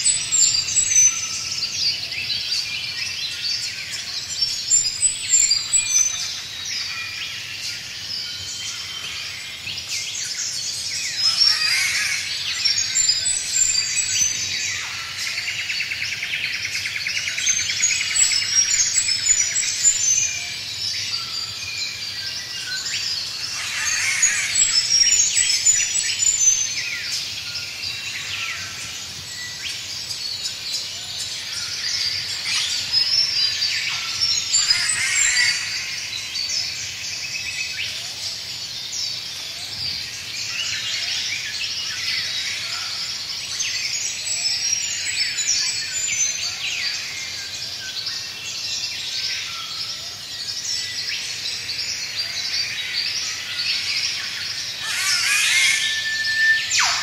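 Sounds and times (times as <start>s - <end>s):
birds singing and calling: 0.0s - 57.0s.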